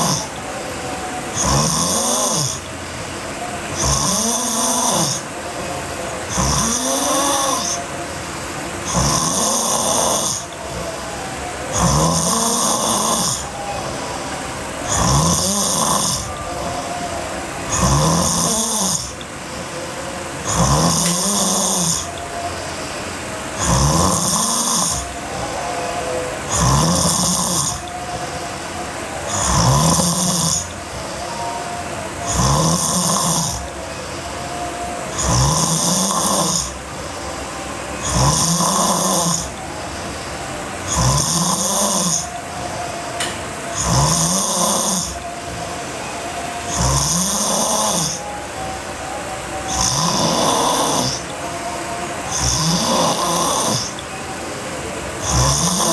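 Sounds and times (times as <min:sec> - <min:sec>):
girl snoring heavily: 0:00.0 - 0:02.7, 0:03.7 - 0:23.0, 0:23.6 - 0:28.6, 0:29.2 - 0:31.6, 0:32.2 - 0:42.8, 0:43.7 - 0:45.7, 0:46.5 - 0:48.4, 0:49.7 - 0:51.4, 0:52.3 - 0:54.1, 0:55.2 - 0:55.9
quiet breathing: 0:00.0 - 0:55.9.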